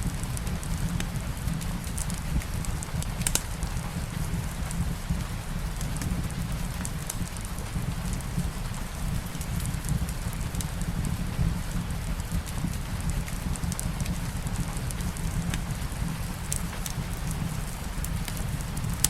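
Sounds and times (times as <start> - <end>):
steady rain: 0.0 - 19.0
wood fire crackling: 0.0 - 19.0.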